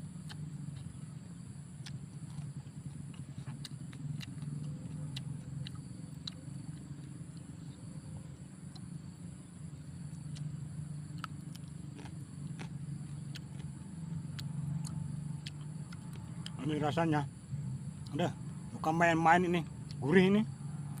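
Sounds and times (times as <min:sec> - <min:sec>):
chewing with bone crunches: 0:00.0 - 0:16.9
steady low hum: 0:00.0 - 0:21.0.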